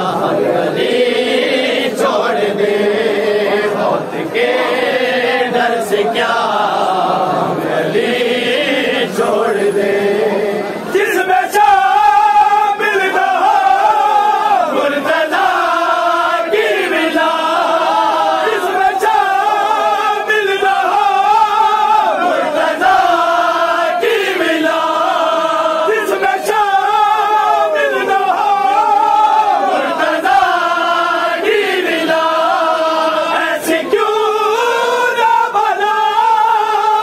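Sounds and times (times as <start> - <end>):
men chanting together: 0.0 - 37.0.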